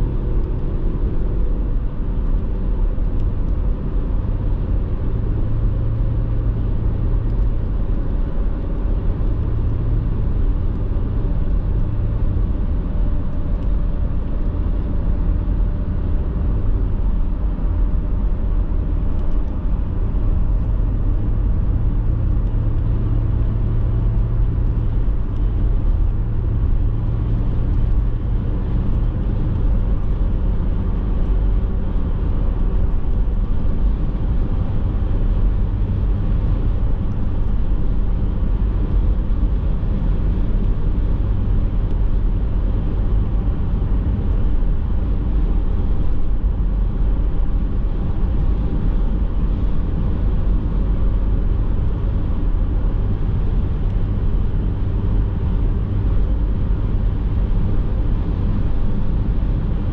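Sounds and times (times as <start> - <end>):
car road and engine drone: 0.0 - 59.9.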